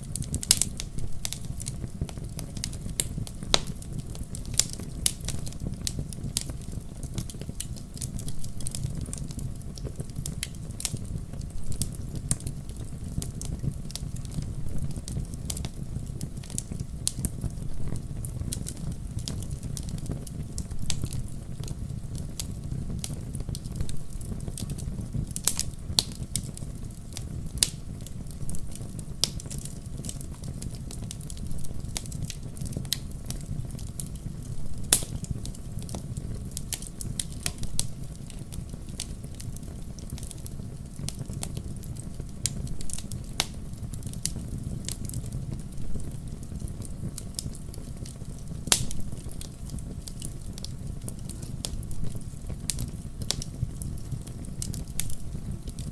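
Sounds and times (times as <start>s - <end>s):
logs crackling and popping: 0.0s - 55.9s
low rumble of flames: 0.0s - 55.9s.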